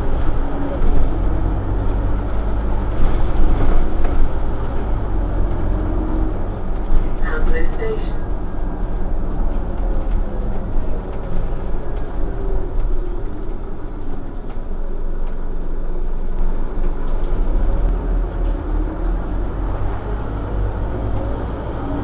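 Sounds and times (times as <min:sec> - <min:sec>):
bus engine rumble: 0:00.0 - 0:22.0
road noise: 0:00.0 - 0:22.0.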